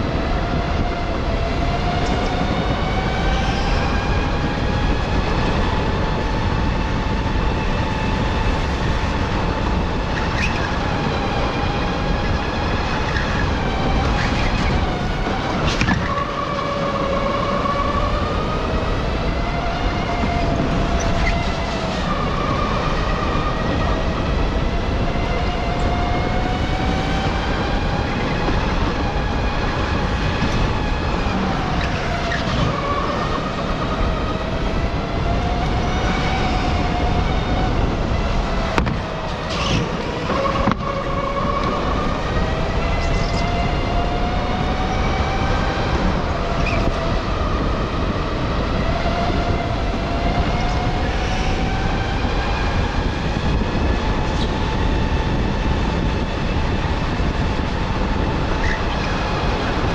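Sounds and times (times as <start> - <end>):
wind rushing: 0.0 - 59.9.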